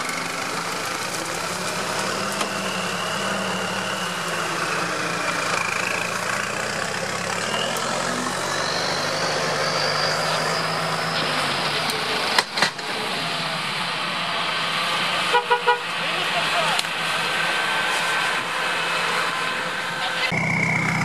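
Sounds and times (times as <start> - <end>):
high whine climbing in pitch: 0.0 - 15.3, 15.9 - 21.0
low engine drone: 0.0 - 21.0.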